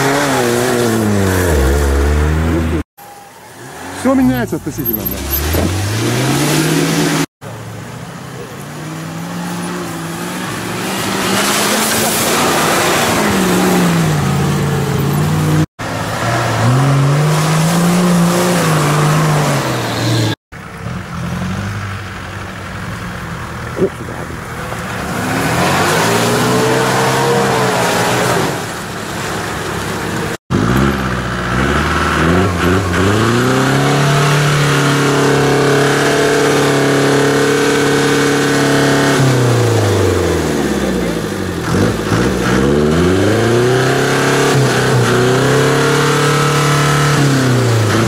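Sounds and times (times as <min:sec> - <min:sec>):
off-road engines revving: 0:00.0 - 0:48.0.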